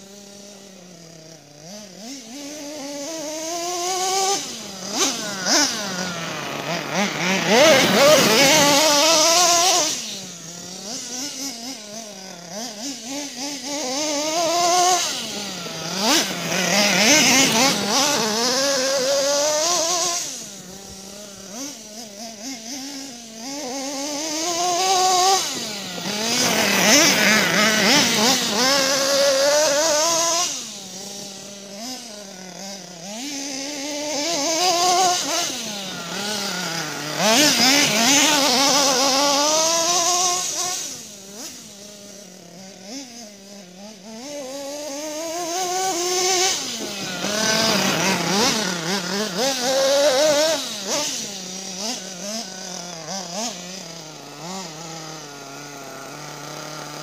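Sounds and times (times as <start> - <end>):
toy truck motor revving: 0.0 - 57.0.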